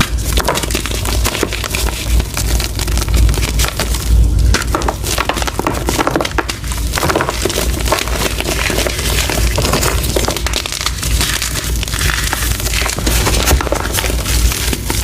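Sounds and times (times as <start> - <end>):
chalk crunching: 0.0 - 15.0.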